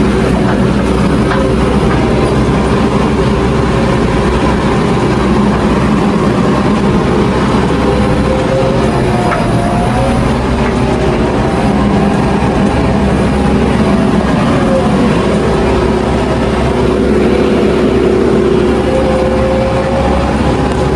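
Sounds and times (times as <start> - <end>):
construction machinery diesel engines: 0.0 - 20.9.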